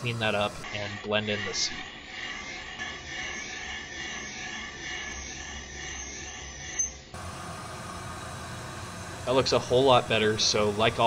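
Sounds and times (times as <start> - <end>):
valve seat cutter scraping hiss: 0.0 - 11.0.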